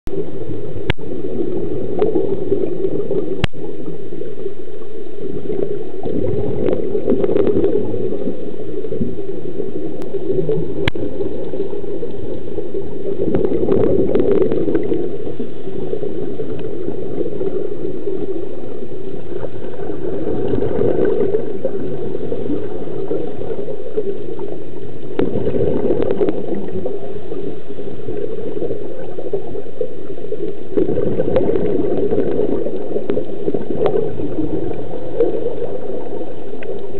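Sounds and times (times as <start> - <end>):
underwater low rush: 0.1 - 36.9.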